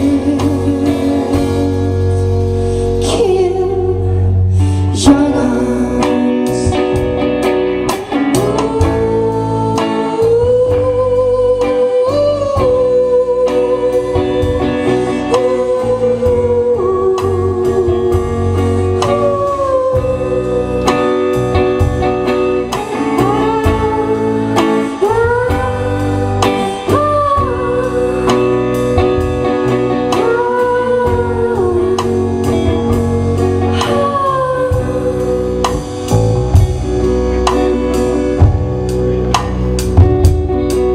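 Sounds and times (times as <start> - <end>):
woman singing: 0.0 - 39.0
live band playing: 0.0 - 40.9.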